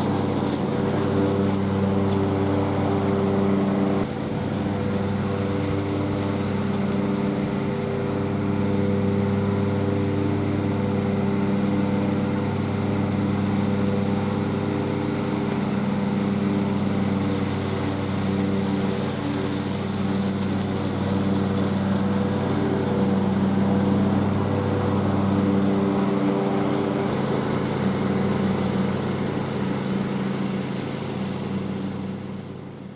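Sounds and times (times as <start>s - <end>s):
lawn mower engine running: 0.0s - 32.9s.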